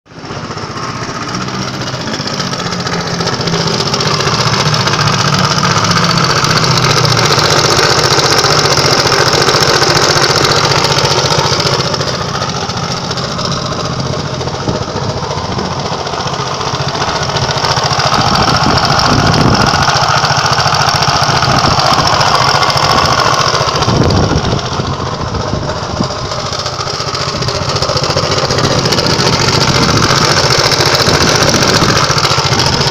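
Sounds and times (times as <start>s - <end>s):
engine knocking: 0.1s - 32.9s
scooter engine revving: 0.1s - 32.9s.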